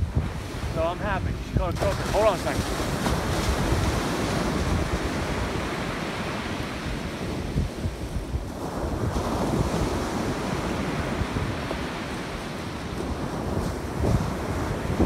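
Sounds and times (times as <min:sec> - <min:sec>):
rough ocean surf breaking: 0:00.0 - 0:15.0
wind buffeting microphone: 0:00.0 - 0:15.0.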